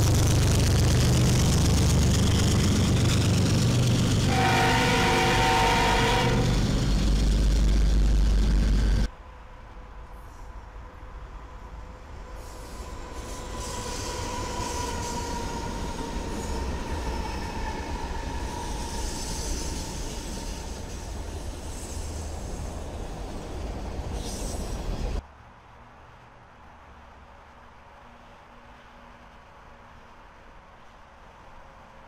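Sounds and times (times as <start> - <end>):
diesel locomotive engine rumble: 0.0 - 32.0
train wheels on rails: 0.0 - 32.0.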